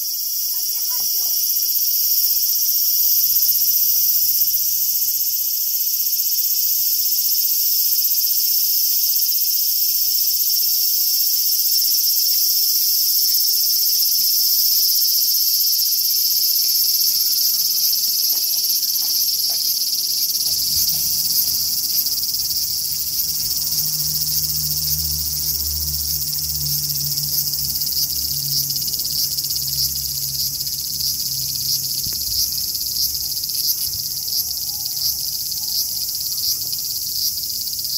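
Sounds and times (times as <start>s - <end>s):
cicada singing: 0.0s - 37.9s.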